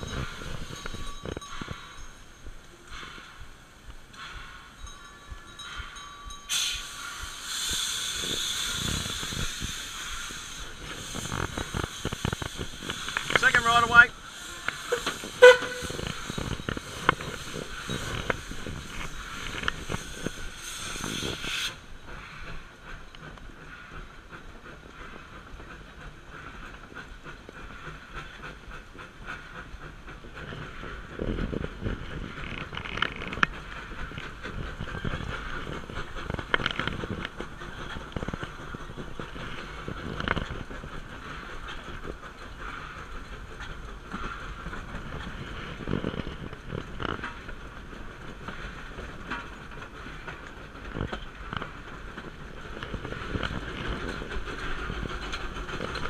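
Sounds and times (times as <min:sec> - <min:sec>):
steam locomotive hissing and running: 0:00.0 - 0:56.0
wheels clunking: 0:08.4 - 0:20.6, 0:22.0 - 0:56.0.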